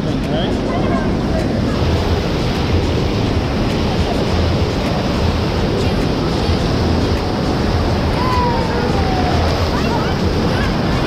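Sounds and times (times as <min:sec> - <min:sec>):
water rushing: 0:00.0 - 0:11.0
wind buffeting microphone: 0:00.0 - 0:11.0.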